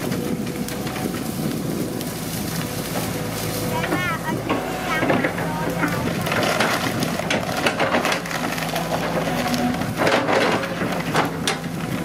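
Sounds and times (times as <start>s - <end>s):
excavator engine running: 0.0s - 12.0s
wood cracking and splintering: 0.0s - 12.0s.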